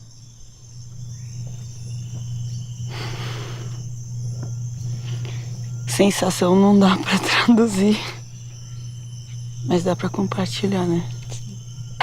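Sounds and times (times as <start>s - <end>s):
constant low hum: 0.0s - 12.0s
insects chirping: 0.0s - 12.0s.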